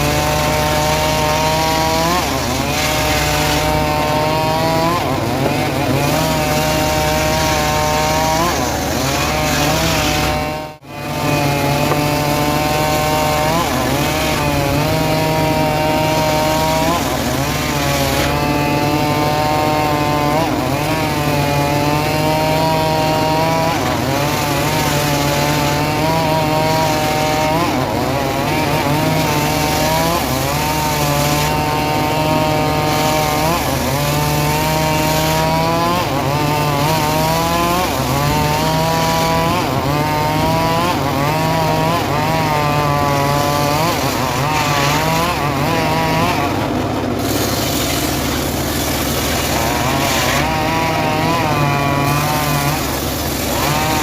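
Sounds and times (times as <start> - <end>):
engine-driven sawmill cutting wood: 0.0 - 54.0.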